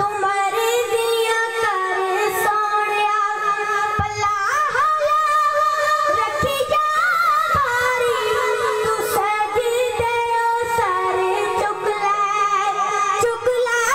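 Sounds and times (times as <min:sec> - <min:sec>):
boy singing into a microphone: 0:00.0 - 0:13.9.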